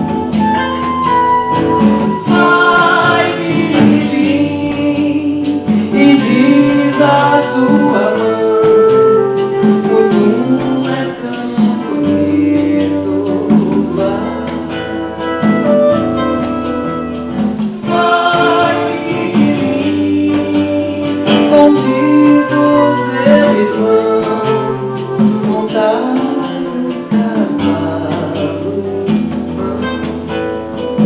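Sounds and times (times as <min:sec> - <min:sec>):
people singing: 0:00.0 - 0:31.0
plucked acoustic guitar: 0:00.0 - 0:31.0.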